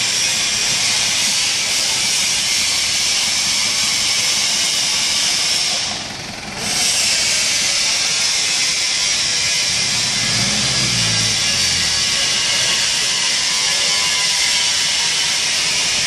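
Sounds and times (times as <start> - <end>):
faint forklift engine running: 0.0 - 16.0.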